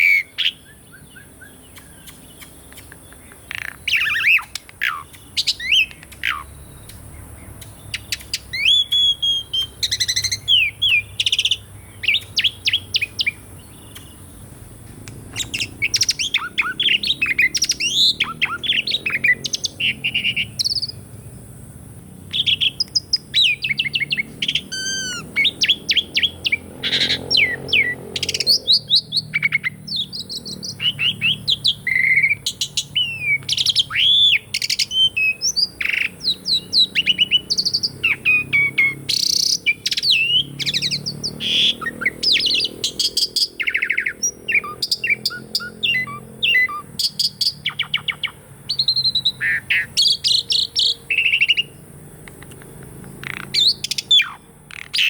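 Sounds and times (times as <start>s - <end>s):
starling singing: 0.0s - 21.1s, 22.2s - 55.0s.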